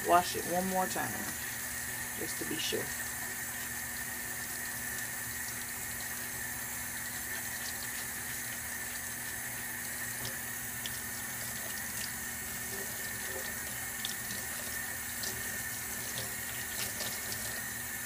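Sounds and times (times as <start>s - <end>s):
tap water running into sink: 0.0s - 18.0s.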